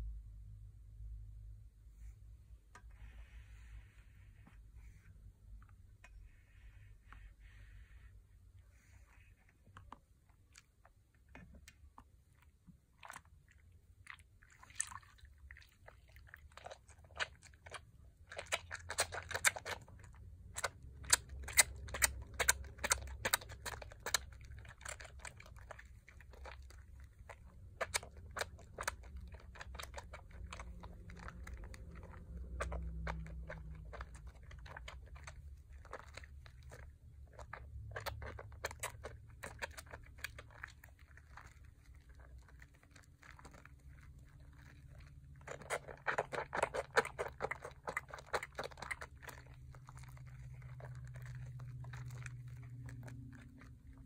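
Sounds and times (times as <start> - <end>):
soap foam squishing and crackling: 2.6 - 54.0.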